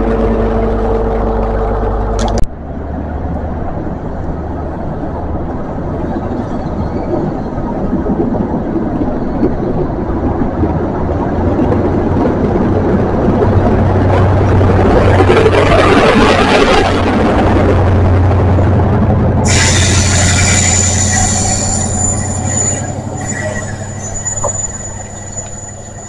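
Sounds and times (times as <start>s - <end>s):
train engine drone: 0.0s - 26.0s
train coaches rolling on rails: 2.2s - 26.0s.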